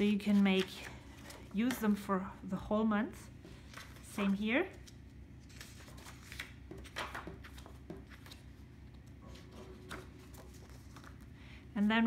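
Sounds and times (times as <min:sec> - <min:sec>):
paper pages rustling: 0:00.0 - 0:02.0, 0:03.4 - 0:11.3
low steady hum: 0:00.0 - 0:12.0.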